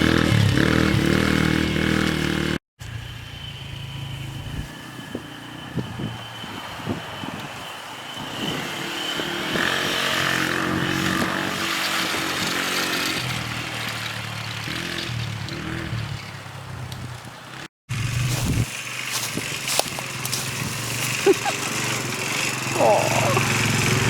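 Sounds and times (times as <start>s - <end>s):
quad engine running: 0.0s - 5.3s, 8.2s - 16.2s, 17.5s - 24.0s.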